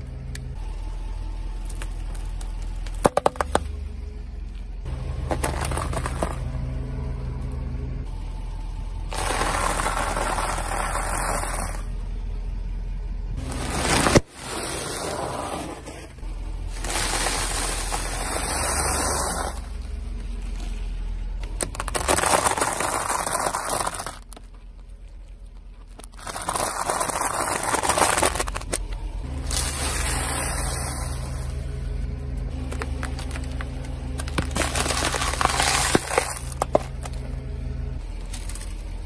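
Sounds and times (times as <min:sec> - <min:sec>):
car engine running: 0:00.0 - 0:39.0
car tyres crushing objects: 0:01.3 - 0:12.0, 0:13.3 - 0:39.0
crackling and scraping: 0:01.6 - 0:07.6, 0:09.0 - 0:12.0, 0:13.4 - 0:39.0.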